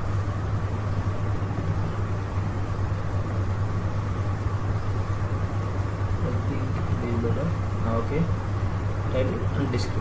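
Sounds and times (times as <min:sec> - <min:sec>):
low hum with hiss: 0:00.0 - 0:10.0.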